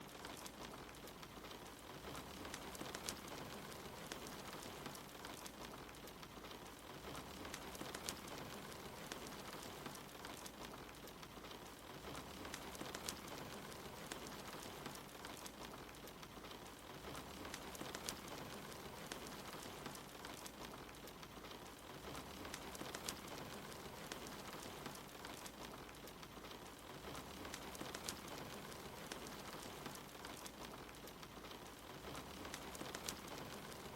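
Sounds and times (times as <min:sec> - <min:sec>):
rain pattering: 0:00.0 - 0:33.9
wood fire crackling: 0:00.0 - 0:33.9.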